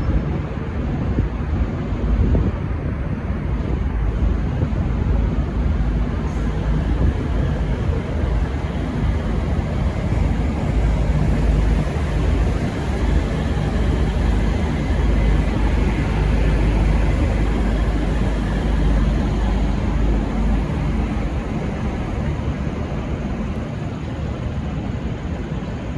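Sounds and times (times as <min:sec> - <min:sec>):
diesel train rumbling: 0:00.0 - 0:25.9.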